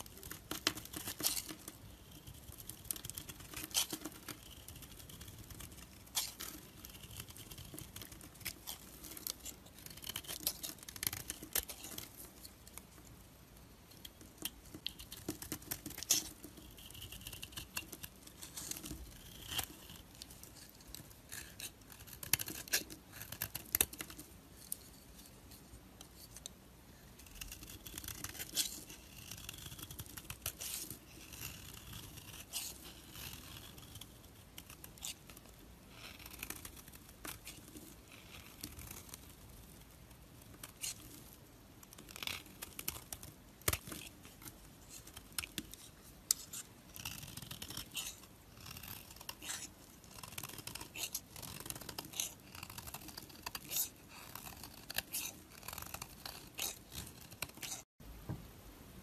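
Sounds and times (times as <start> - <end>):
knife scraping soap: 0.0 - 13.3, 13.9 - 57.9.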